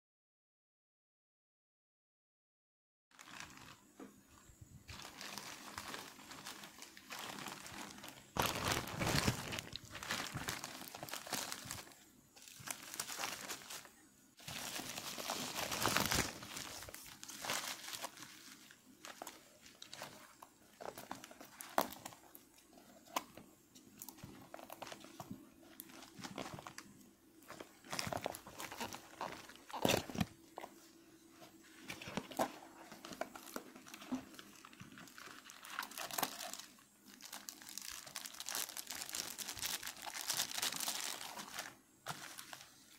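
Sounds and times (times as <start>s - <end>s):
plastic bag crinkling: 3.2s - 4.0s, 4.9s - 30.8s, 31.7s - 42.9s.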